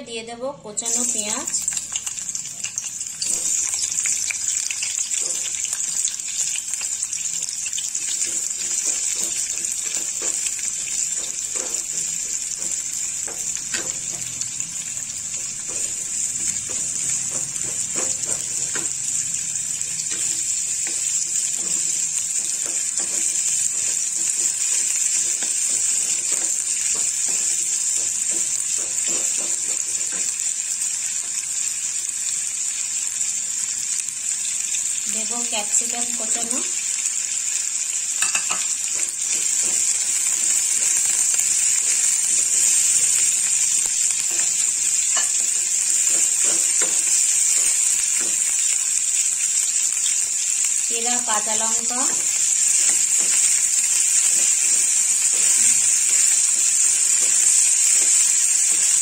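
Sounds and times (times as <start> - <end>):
onions sizzling in oil: 0.8 - 59.0.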